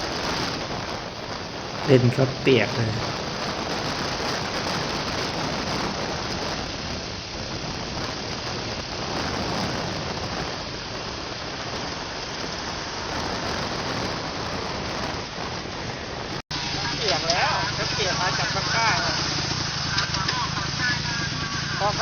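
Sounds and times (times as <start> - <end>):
rain: 0.0 - 22.0.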